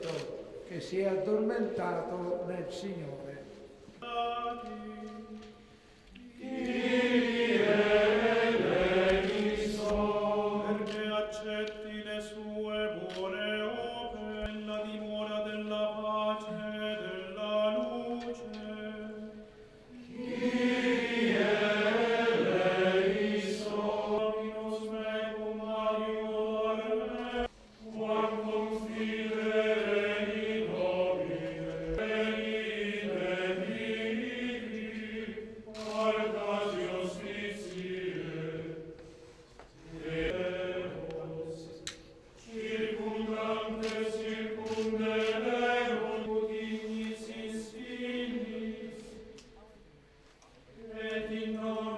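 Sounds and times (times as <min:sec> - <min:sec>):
group singing slow chant: 0:04.0 - 0:49.8, 0:50.6 - 0:51.9.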